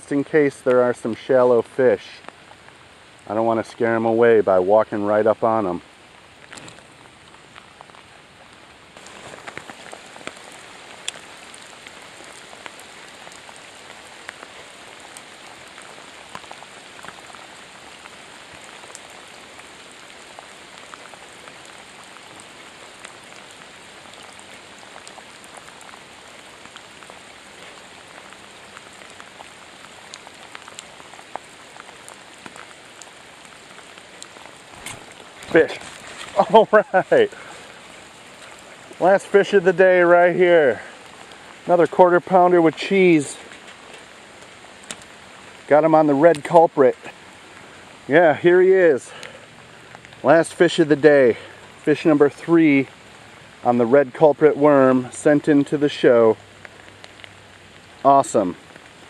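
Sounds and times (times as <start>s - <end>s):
rain falling on a river: 0.0s - 59.0s.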